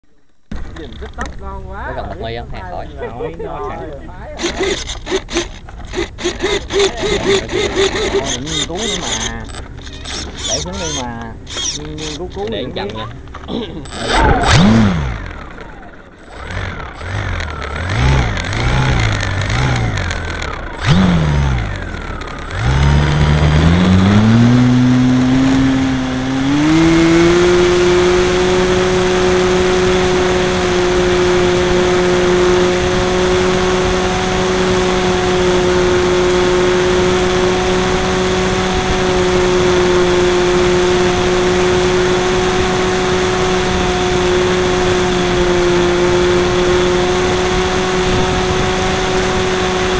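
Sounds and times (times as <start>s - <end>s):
model airplane motor and propeller: 0.0s - 49.9s.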